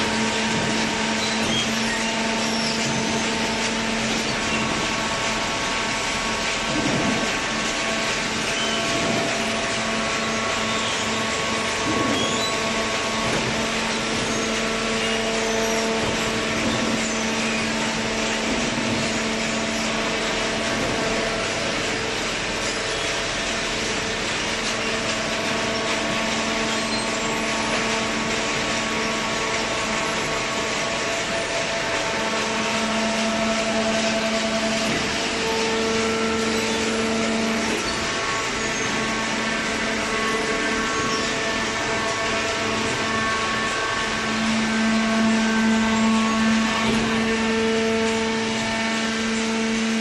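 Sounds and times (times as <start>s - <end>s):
motor and pump drone: 0.0s - 50.0s.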